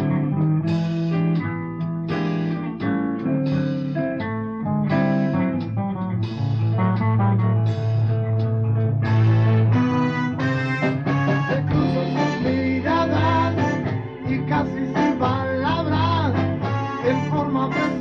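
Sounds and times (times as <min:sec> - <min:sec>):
blues band playing: 0:00.0 - 0:18.0
electric guitar: 0:00.0 - 0:18.0.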